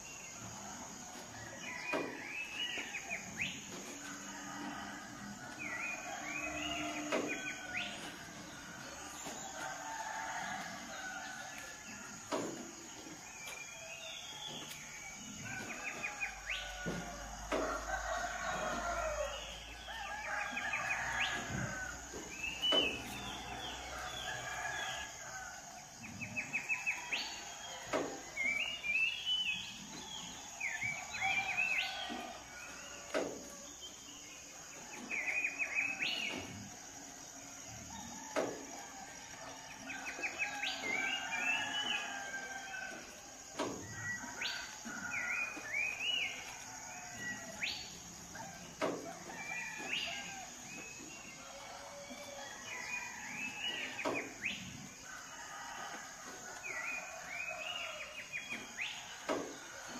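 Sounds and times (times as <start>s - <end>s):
roosters crowing: 0.0s - 59.9s
songbirds chirping and trilling: 0.0s - 59.9s.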